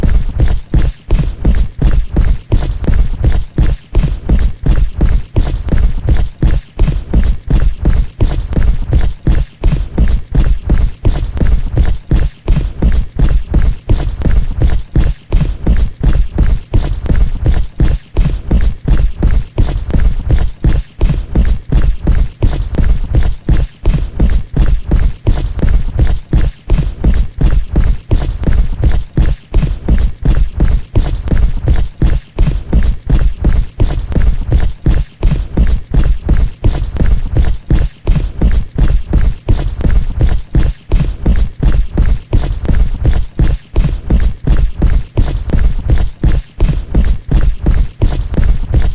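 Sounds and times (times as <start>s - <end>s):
heavy footsteps thudding: 0.0s - 48.9s.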